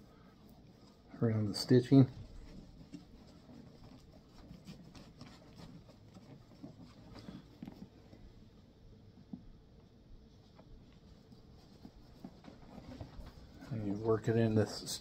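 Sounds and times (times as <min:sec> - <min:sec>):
rag rubbing leather boot: 0:00.0 - 0:08.5, 0:10.4 - 0:15.0.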